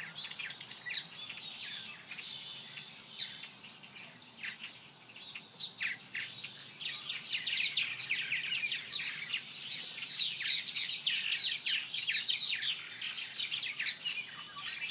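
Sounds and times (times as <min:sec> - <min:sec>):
small songbirds chirping: 0:00.0 - 0:14.9.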